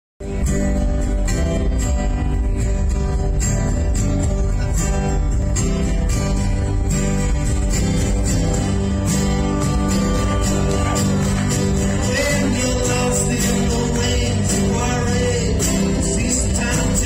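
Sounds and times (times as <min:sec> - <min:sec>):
acoustic guitars strumming: 0:00.2 - 0:17.0.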